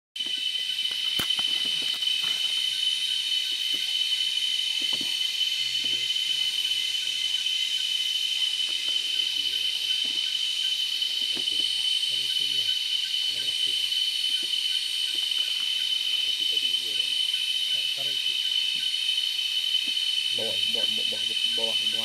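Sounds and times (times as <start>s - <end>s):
cicadas and insects droning: 0.2s - 22.0s.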